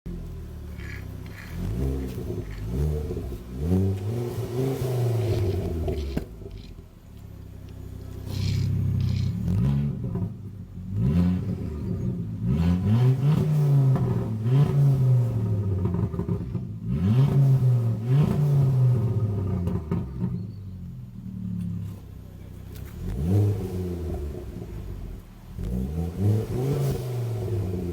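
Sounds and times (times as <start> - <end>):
car engine revving: 0.1 - 27.9.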